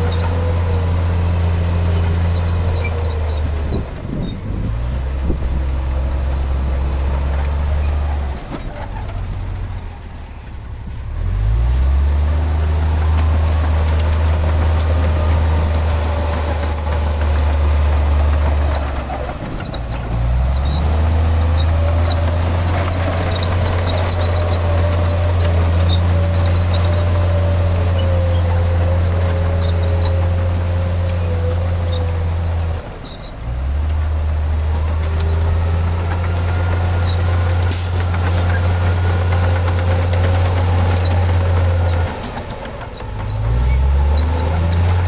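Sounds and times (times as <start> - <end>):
heavy diesel engine revving: 0.0 - 45.0.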